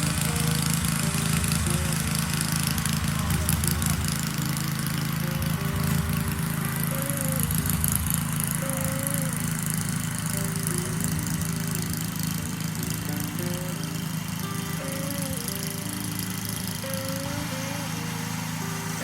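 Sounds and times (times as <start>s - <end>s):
background music: 0.0s - 19.0s
small gasoline engine running: 0.0s - 19.0s.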